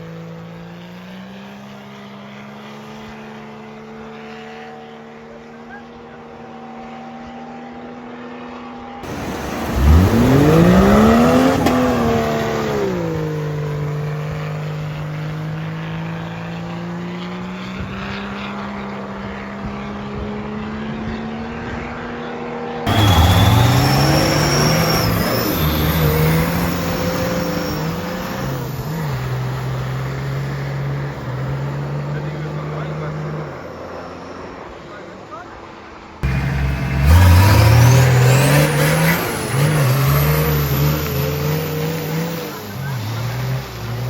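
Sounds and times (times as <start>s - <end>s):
off-road engines at full throttle: 0.0s - 44.0s.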